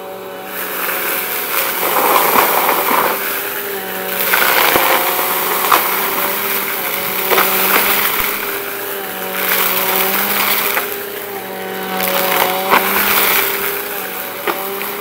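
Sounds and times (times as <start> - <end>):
vacuum cleaner motor hum: 0.0 - 15.0
debris crunching and rattling: 0.5 - 15.0
debris cracking against bin: 0.6 - 15.0.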